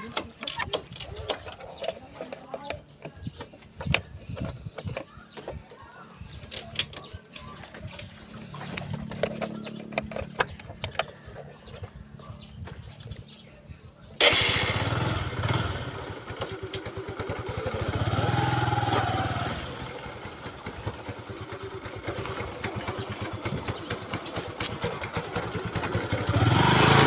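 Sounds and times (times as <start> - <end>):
motorcycle engine running: 0.0 - 13.4, 14.2 - 27.0
road and wind noise: 0.0 - 27.0.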